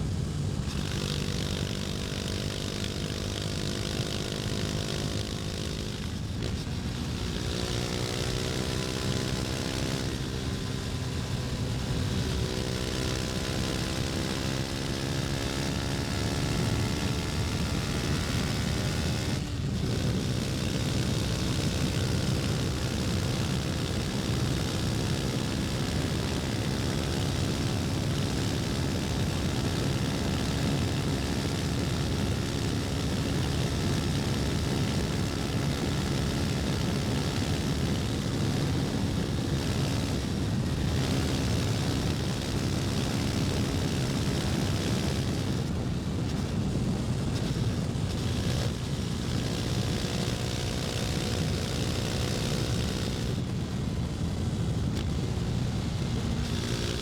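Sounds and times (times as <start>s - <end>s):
motorcycle engine under load: 0.0s - 57.0s.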